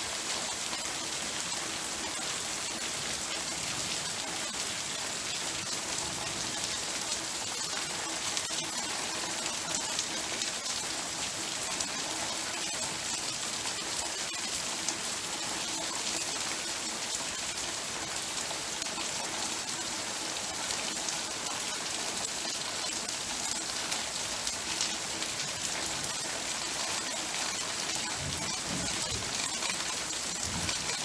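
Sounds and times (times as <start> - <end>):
heavy rain pattering: 0.0 - 31.0.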